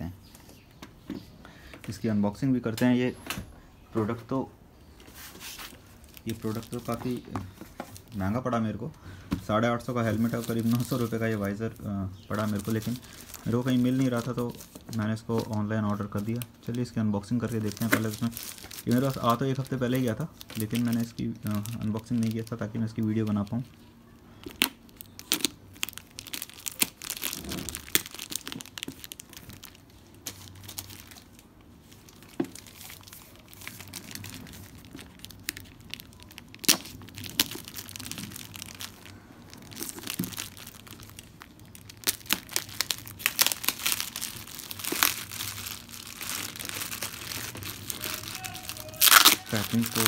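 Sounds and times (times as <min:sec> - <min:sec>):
plastic bag crinkling and tearing: 0:05.0 - 0:08.6, 0:09.7 - 0:23.8, 0:24.4 - 0:50.0.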